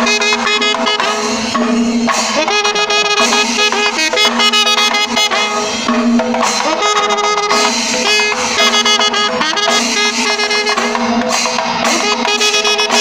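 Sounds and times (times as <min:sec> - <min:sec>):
horns sounding held notes: 0:00.0 - 0:01.6, 0:02.2 - 0:05.9, 0:06.6 - 0:11.1, 0:11.8 - 0:13.0
hourglass drums beaten quickly: 0:00.0 - 0:13.0.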